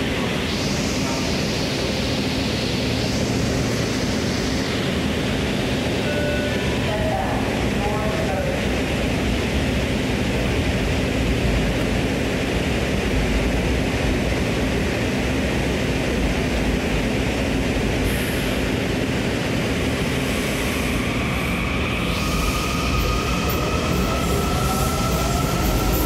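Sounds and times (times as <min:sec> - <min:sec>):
subway train rumbling on track: 0:00.0 - 0:26.0.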